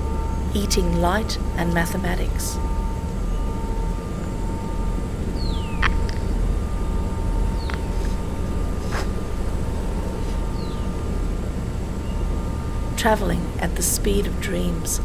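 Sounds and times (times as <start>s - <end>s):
deep rumbling drone: 0.0s - 15.0s
faint high held tones: 0.0s - 15.0s.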